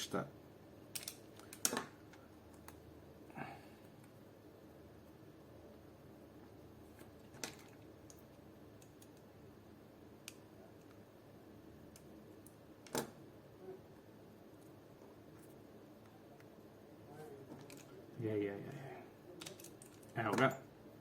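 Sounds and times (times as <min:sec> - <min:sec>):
quiet room hum: 0:00.0 - 0:21.0.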